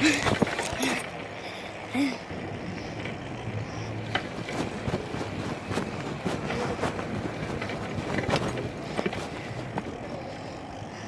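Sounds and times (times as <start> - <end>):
bicycle rattling clicks: 0.0 - 10.9
bicycle rolling: 0.0 - 11.0.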